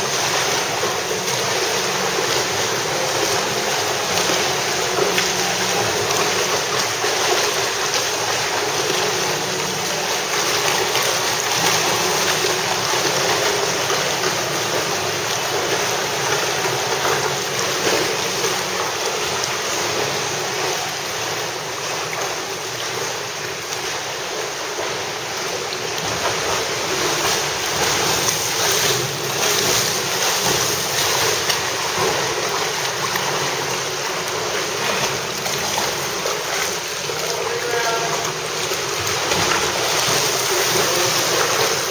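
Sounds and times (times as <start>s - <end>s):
swimmers splashing water: 0.0s - 41.9s.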